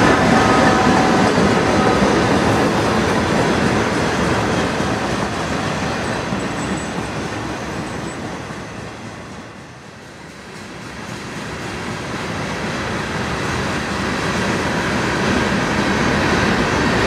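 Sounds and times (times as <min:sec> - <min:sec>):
freight train rail rumble: 0:00.0 - 0:17.0.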